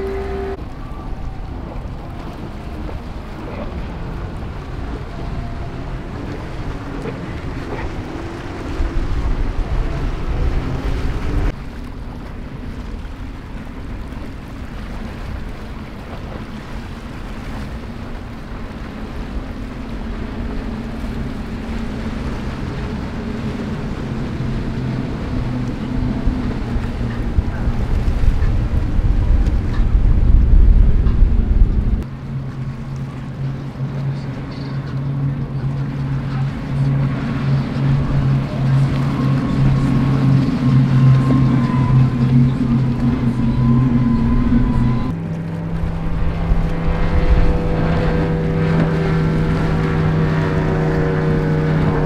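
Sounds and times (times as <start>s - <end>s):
powerboat engine drone: 0.0s - 52.0s
rush of hull and spray: 0.0s - 52.0s
wind buffeting microphone: 0.0s - 52.0s.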